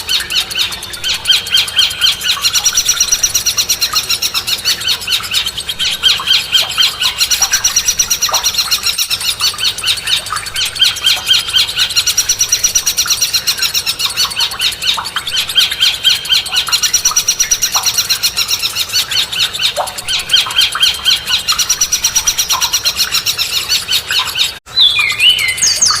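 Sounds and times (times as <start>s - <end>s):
songbird chirping trills: 0.0s - 26.0s.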